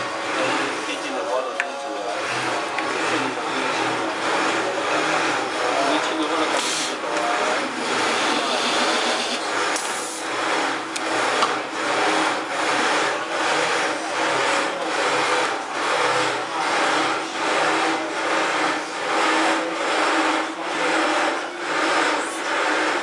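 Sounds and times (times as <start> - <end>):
machine whirring hum: 0.0 - 23.0.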